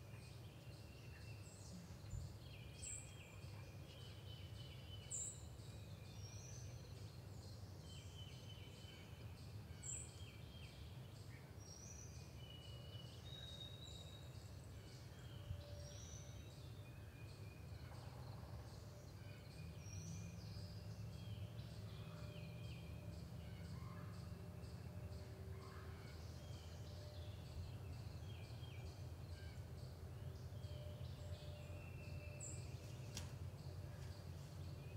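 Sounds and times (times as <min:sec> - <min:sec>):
songbirds chirping and whistling: 0:00.0 - 0:34.9.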